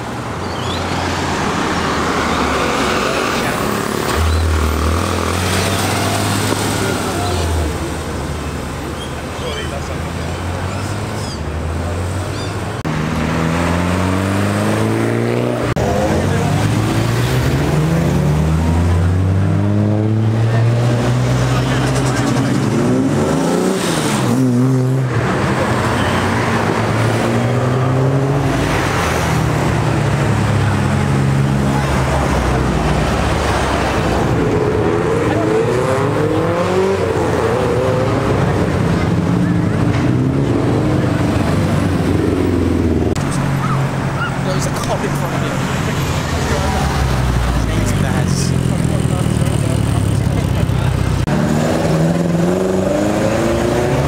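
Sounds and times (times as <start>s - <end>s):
cars driving past revving: 0.0s - 54.0s.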